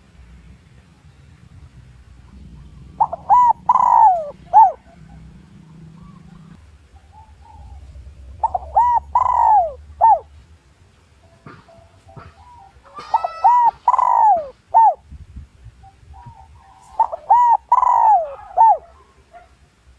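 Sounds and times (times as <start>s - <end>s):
dove cooing: 2.0s - 10.6s, 11.3s - 15.0s, 15.8s - 19.5s.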